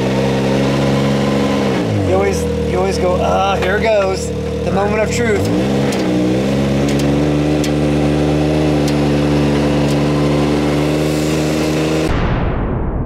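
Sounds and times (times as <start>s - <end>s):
engine running at low speed: 0.0s - 12.1s.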